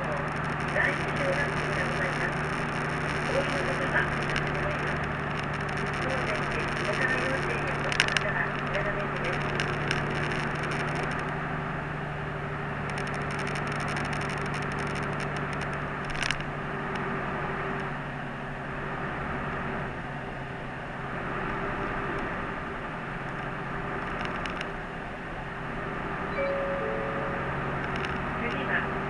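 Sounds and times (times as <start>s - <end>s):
diesel engine humming: 0.0s - 24.1s, 25.4s - 29.0s
road and tyre noise: 0.0s - 29.0s.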